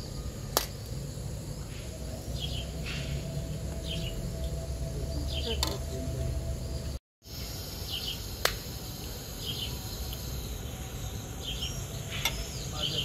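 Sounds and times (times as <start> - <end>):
steady low rumble: 0.0 - 11.4
small birds chirping: 1.6 - 13.0.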